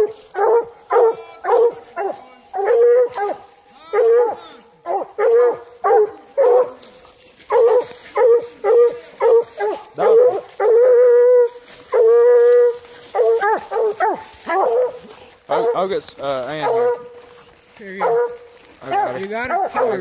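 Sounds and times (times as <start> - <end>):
dog barking: 0.0 - 15.9, 16.5 - 17.2, 18.0 - 20.0.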